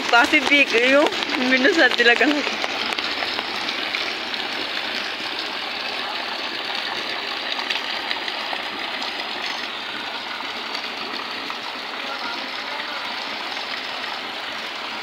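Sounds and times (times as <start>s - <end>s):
heavy rain splashing into water: 0.0s - 15.0s.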